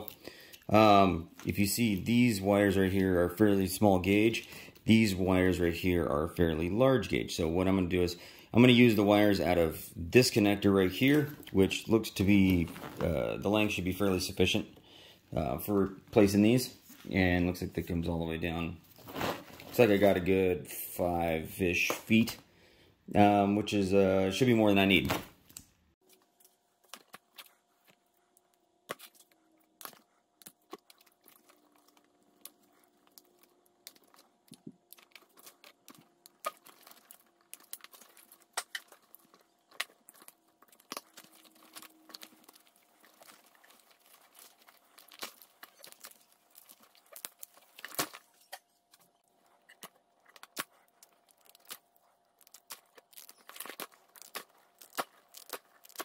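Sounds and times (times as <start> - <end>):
wiring harness rustling and crinkling: 6.6 - 14.8, 15.4 - 20.5, 24.3 - 56.0.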